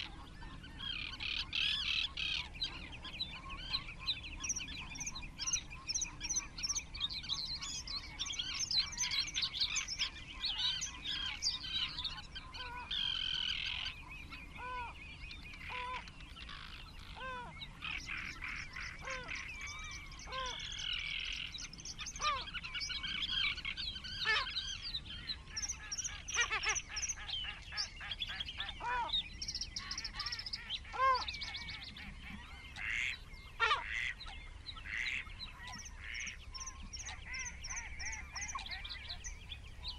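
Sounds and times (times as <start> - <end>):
short low bird calls: 0.0 - 39.9
small birds singing and chirping: 0.0 - 39.9.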